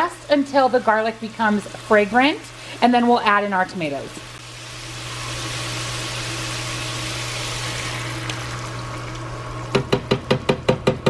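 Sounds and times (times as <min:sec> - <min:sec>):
garlic sizzling in a frying pan: 0:00.1 - 0:09.5.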